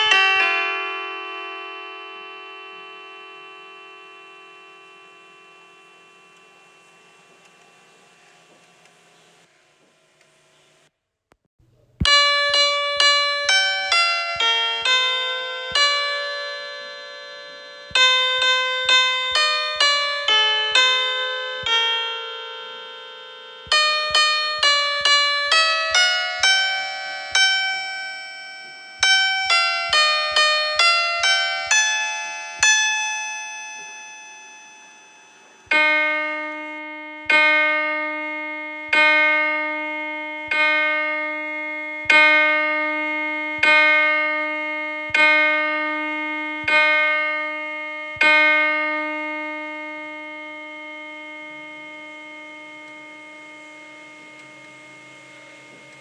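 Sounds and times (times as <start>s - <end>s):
piano imitating bell chimes: 0.0s - 8.2s, 12.0s - 56.0s.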